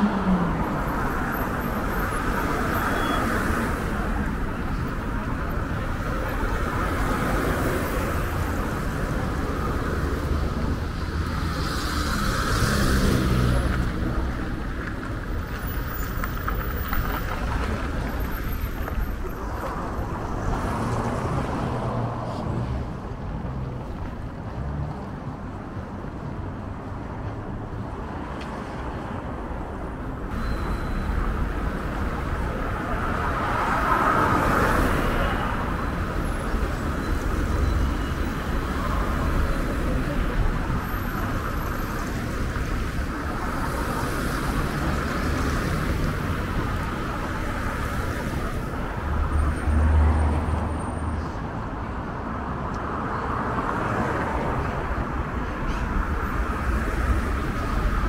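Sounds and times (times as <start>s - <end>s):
cars passing on road: 0.0s - 58.0s.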